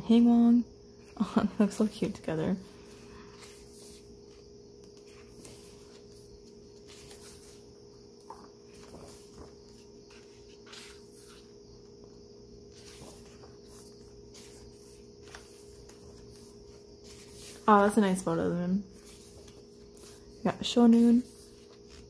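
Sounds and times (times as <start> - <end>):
faint steady hum: 0.0 - 22.0
book pages turning: 2.0 - 18.2, 18.9 - 22.0.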